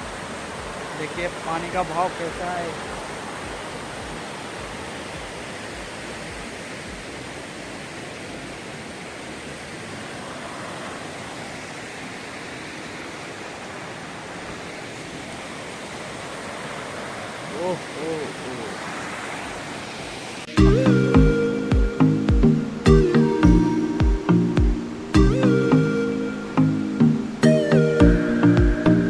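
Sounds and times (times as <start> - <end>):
river water rushing over rocks: 0.0 - 29.0.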